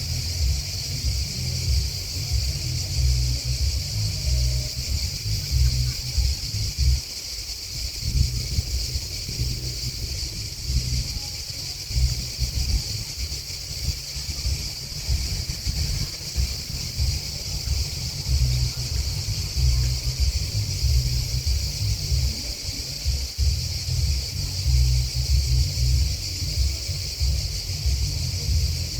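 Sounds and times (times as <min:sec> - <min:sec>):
insects singing: 0:00.0 - 0:28.9
wind buffeting microphone: 0:00.0 - 0:28.9.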